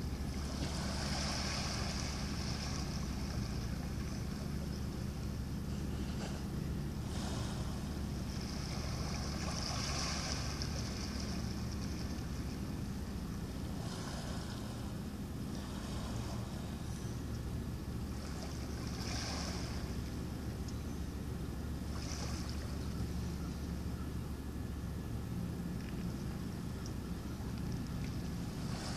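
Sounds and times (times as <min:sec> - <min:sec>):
small waves washing on shore: 0:00.0 - 0:16.9, 0:17.9 - 0:20.5, 0:21.8 - 0:23.3, 0:25.3 - 0:28.9
low engine hum: 0:00.0 - 0:28.9.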